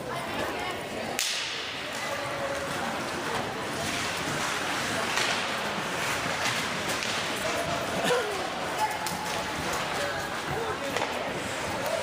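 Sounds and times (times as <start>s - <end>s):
ice rink rushing wash: 1.2s - 12.0s.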